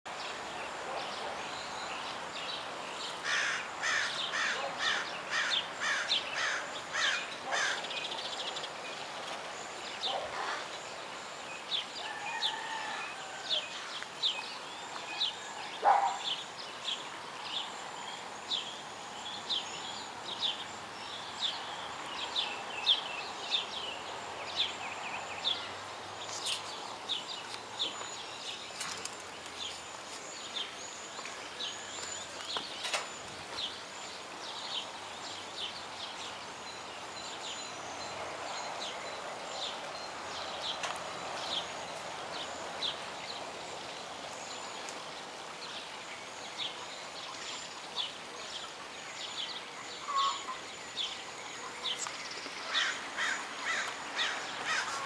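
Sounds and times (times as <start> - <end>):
birds calling: 0.1 - 55.0
faint background hiss: 0.1 - 55.0.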